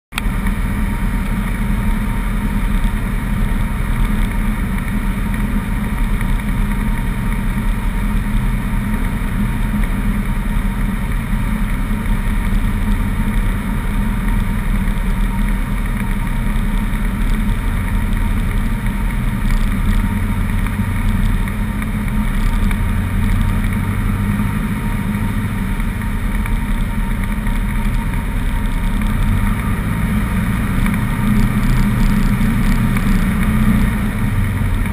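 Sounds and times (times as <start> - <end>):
airplane engine and propeller drone: 0.1 - 34.9.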